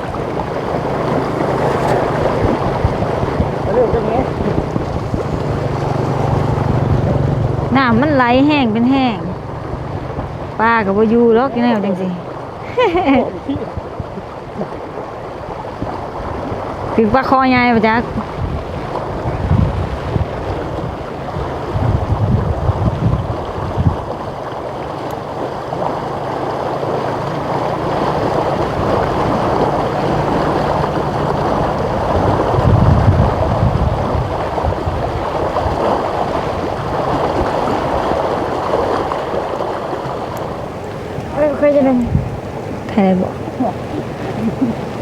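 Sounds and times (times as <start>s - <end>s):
floodwater rushing: 0.0s - 45.0s
wind buffeting microphone: 0.0s - 45.0s.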